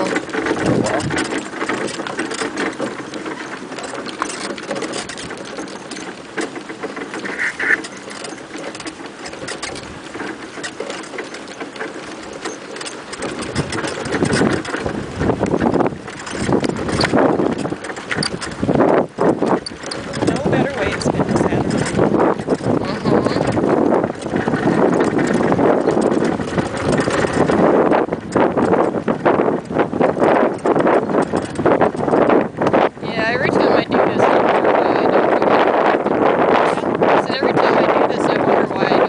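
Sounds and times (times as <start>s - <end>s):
cart rattling over dirt trail: 0.0s - 39.0s.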